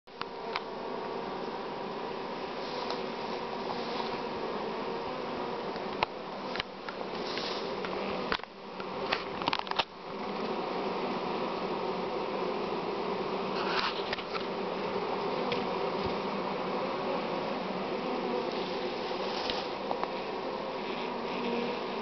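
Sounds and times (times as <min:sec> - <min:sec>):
honeybees buzzing: 0:00.1 - 0:22.0.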